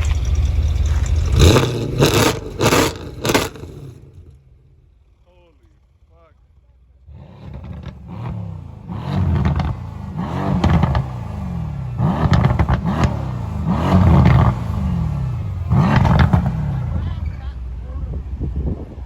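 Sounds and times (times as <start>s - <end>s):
car engine revving: 0.0s - 17.6s.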